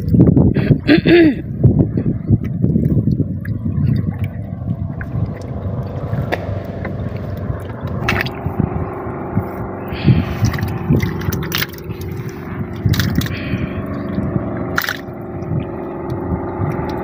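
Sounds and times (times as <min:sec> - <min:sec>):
boat engine drone: 0:00.0 - 0:17.0
water sloshing against hull: 0:01.4 - 0:17.0
net knocking and scraping on boat: 0:02.0 - 0:17.0.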